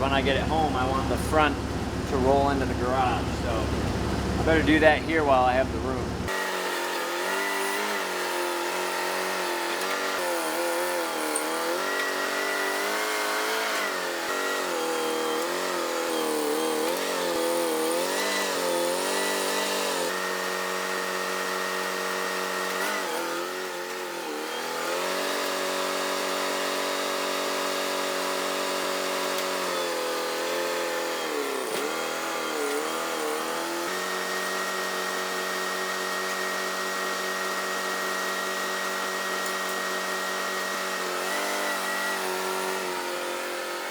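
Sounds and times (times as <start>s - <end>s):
forklift engine revving: 0.0s - 43.7s.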